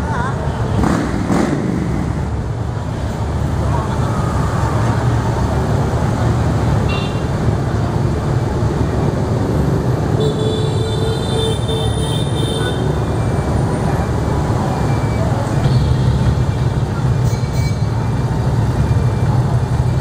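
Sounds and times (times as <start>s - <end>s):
motorbike traffic rumble: 0.0s - 20.0s.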